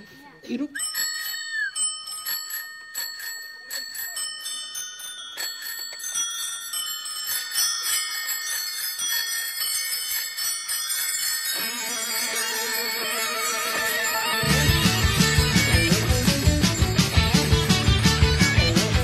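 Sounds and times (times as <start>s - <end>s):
bicycle bells ringing: 0.0s - 19.0s.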